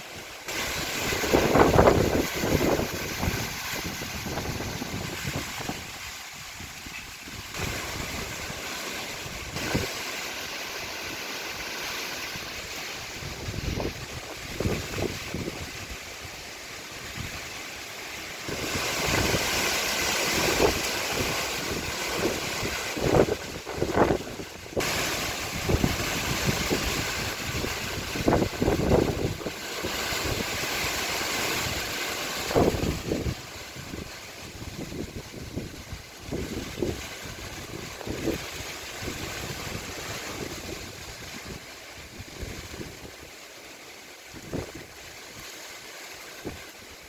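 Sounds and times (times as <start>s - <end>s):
strong wind gusts: 0.0s - 43.4s, 44.3s - 45.5s, 46.4s - 47.0s
wind buffeting microphone: 0.5s - 10.0s, 12.4s - 17.7s, 18.5s - 43.4s, 44.3s - 45.1s.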